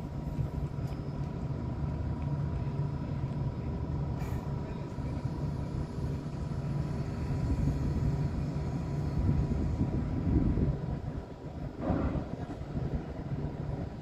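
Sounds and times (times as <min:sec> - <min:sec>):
thin steady whine: 0:00.0 - 0:12.0
vehicle engine rumble: 0:00.0 - 0:14.0.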